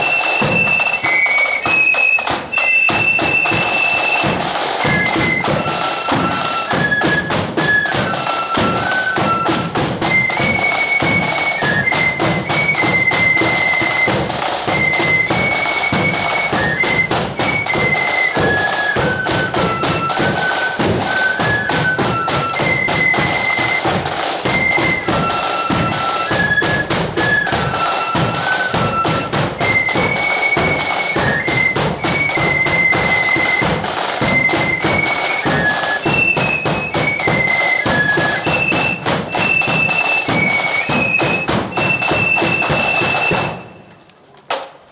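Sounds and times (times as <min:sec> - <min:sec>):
snare and bass drumming: 0:00.0 - 0:43.9
flutes playing march melody: 0:00.0 - 0:44.0.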